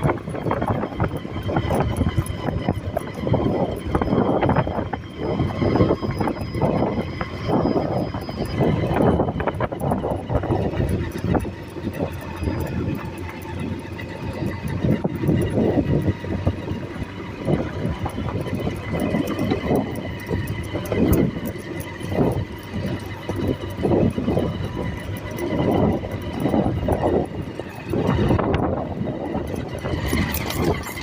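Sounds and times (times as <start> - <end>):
faint steady tones: 0.0 - 31.0
vehicle low rumble: 0.0 - 31.0.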